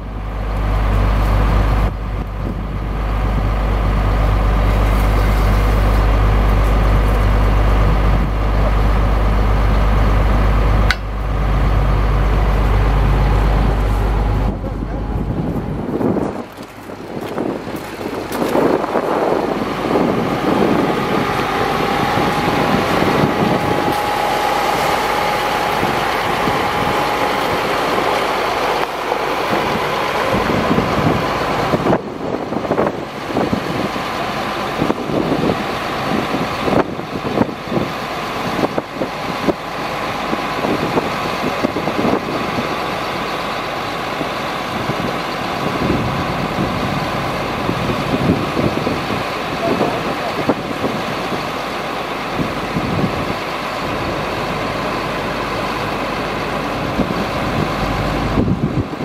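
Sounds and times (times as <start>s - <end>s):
steady high whine: 0.0s - 59.0s
truck engine running: 0.0s - 59.0s.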